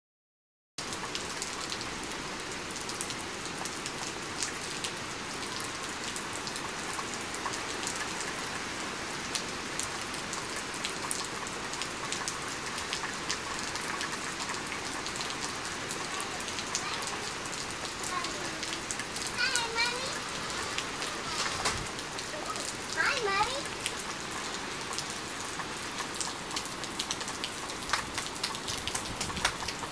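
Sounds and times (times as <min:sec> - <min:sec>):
raindrops ticking close by: 0:00.8 - 0:29.9
steady rain: 0:00.8 - 0:29.9.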